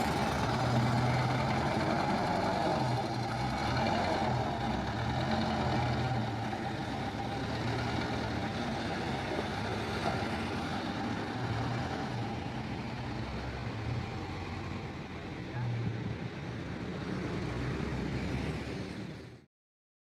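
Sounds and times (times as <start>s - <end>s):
dump truck engine running: 0.0s - 19.4s.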